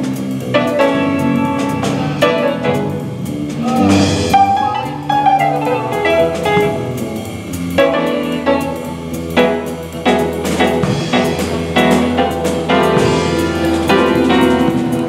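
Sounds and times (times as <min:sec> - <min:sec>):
jazz piano playing: 0:00.0 - 0:15.0.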